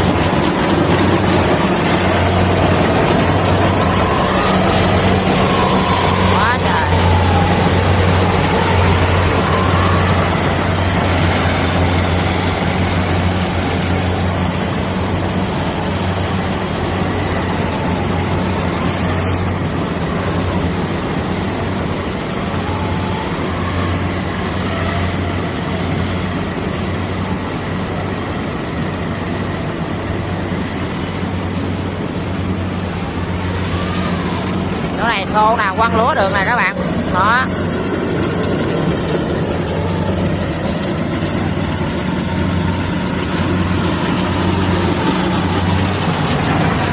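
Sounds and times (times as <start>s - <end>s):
combine harvester engine drone: 0.0s - 46.9s.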